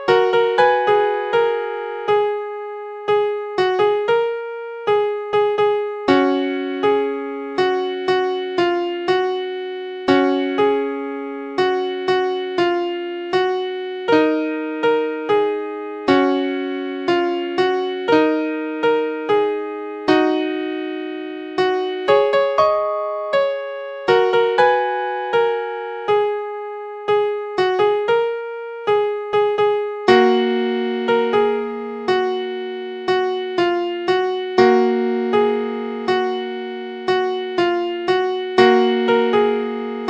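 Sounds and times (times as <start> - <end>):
electric piano melody: 0.0 - 40.0.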